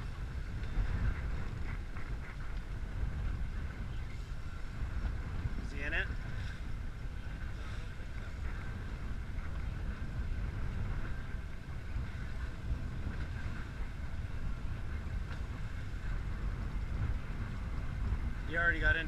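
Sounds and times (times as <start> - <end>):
boat engine rumbling: 0.0 - 19.0
faint steady whine: 0.0 - 19.0.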